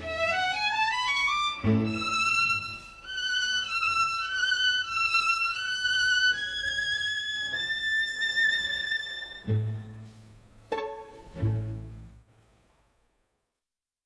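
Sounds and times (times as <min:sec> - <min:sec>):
solo violin melody: 0:00.0 - 0:12.1.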